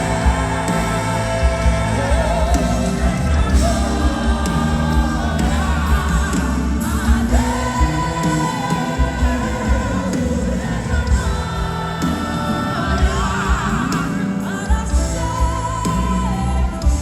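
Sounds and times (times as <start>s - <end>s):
band with bass and drums: 0.0s - 17.0s
person singing with vibrato: 0.0s - 17.0s.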